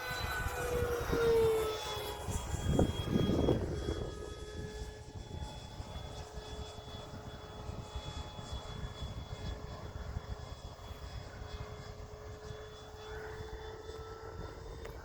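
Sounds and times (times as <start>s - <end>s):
model jet fan whine: 0.0s - 15.0s
wind buffeting microphone: 0.0s - 15.0s.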